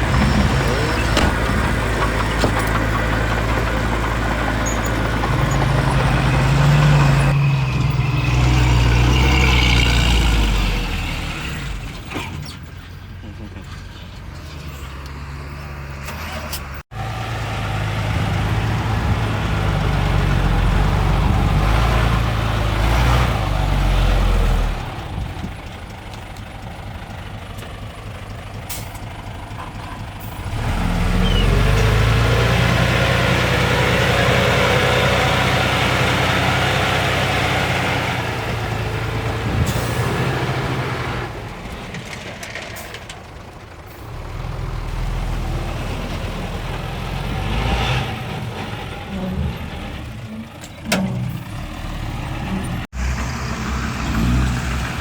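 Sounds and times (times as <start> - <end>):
heavy diesel engines under load: 0.0 - 55.0.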